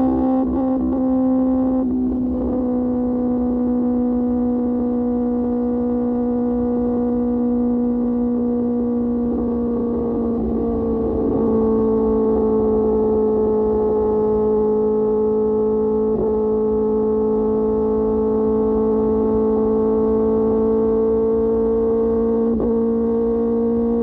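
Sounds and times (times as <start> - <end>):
motorcycle engine at high rev: 0.0 - 24.0.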